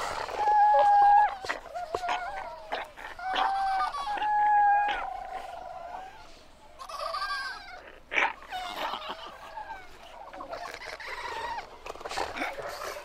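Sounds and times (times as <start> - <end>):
fur seals calling: 0.0 - 13.0.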